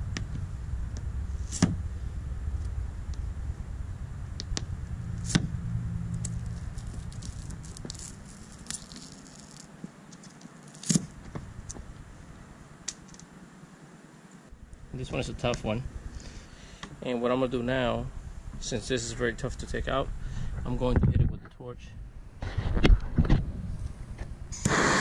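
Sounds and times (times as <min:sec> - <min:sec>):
low engine rumble: 0:00.0 - 0:09.8, 0:11.0 - 0:13.0, 0:14.5 - 0:24.6.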